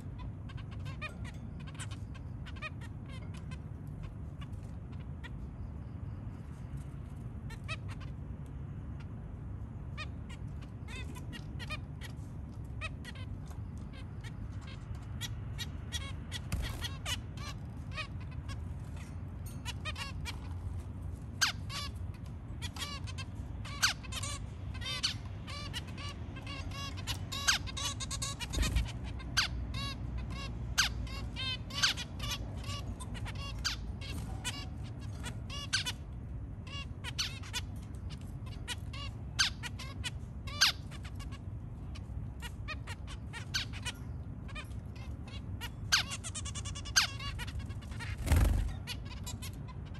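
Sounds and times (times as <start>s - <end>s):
steady low hum: 0.0s - 49.9s
finches calling: 9.9s - 49.9s.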